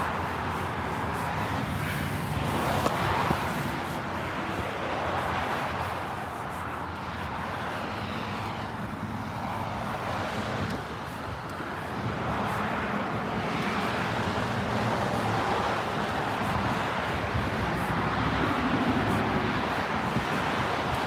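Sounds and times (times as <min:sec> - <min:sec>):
cars passing on road: 0:00.0 - 0:21.0.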